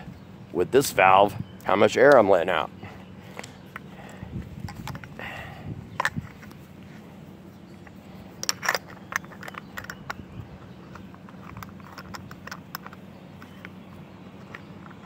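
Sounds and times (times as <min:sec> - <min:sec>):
handling clicks and scrapes: 0:02.8 - 0:15.0.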